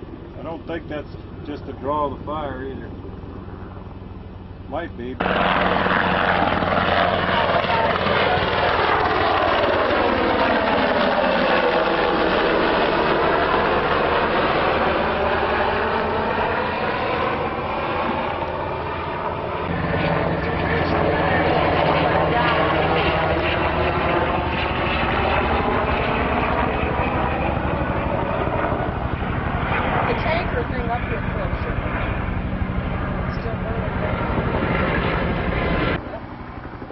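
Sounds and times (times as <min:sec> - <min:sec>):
helicopter flying overhead: 0:00.0 - 0:36.9.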